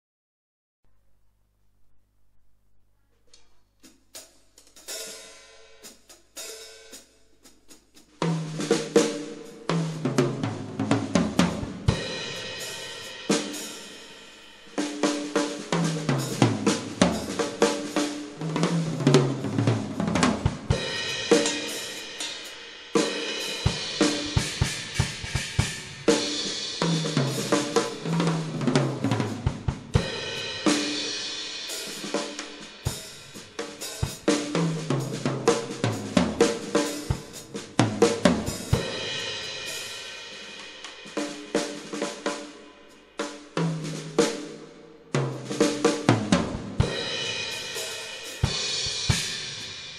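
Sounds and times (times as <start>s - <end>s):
drum kit groove: 3.3s - 49.9s.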